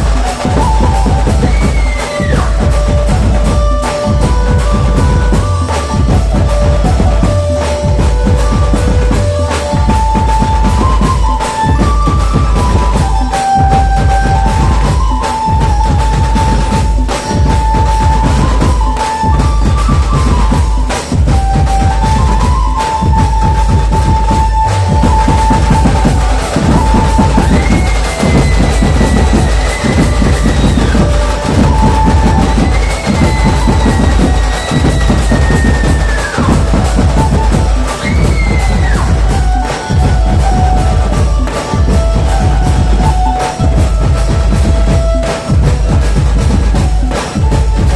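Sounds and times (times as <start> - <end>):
dense folk drumming: 0.0 - 47.9
high lead line sliding notes: 0.0 - 47.9
melody in long steady notes: 0.0 - 47.9.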